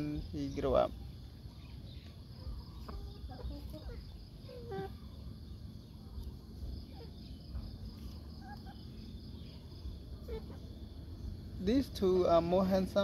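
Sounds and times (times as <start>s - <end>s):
chickens calling: 0.0s - 13.0s
low background rumble: 0.0s - 13.0s.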